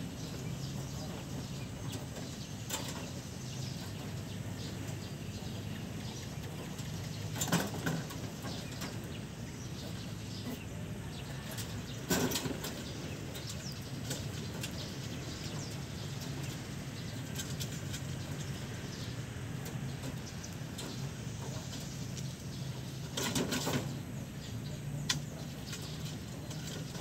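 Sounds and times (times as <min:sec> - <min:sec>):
rabbits scrabbling in hutch: 0:00.0 - 0:27.0.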